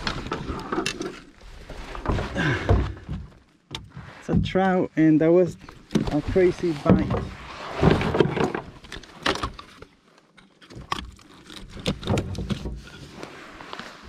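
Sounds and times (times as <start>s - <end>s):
knocks and clatter on plastic kayak: 0.0s - 10.0s, 10.6s - 13.2s.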